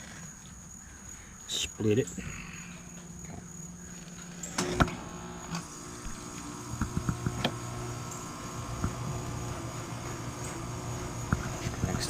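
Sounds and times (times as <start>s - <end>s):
air conditioner humming: 1.9s - 12.0s.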